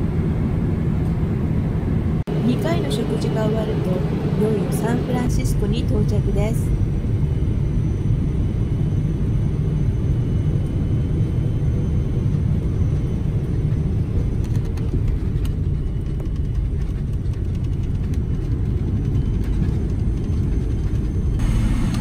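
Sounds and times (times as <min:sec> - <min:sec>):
jet engine and wheels rumble: 0:00.0 - 0:22.0.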